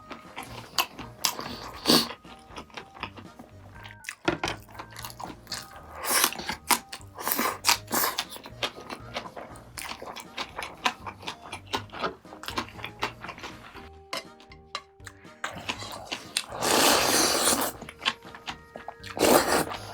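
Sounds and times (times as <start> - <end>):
crunchy chewing: 0.0 - 19.9.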